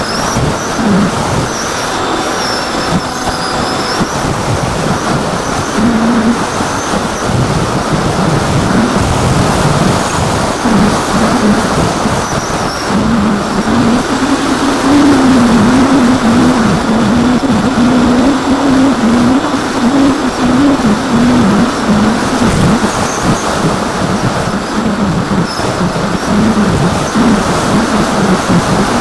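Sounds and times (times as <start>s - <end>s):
electric propeller motor buzzing: 0.0s - 29.0s
wind rush on microphone: 0.0s - 29.0s.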